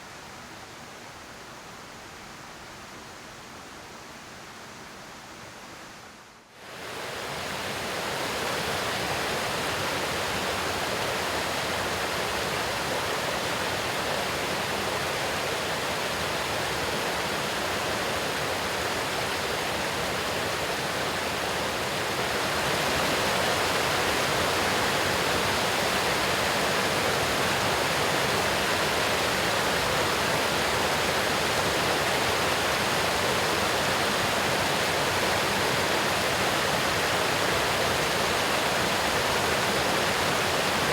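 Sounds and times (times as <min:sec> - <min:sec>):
small waterfall rushing and splashing: 0:00.0 - 0:40.9.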